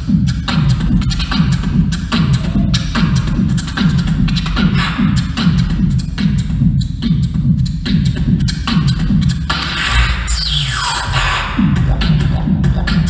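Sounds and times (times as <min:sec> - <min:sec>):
beatboxing into a microphone: 0:00.0 - 0:13.0.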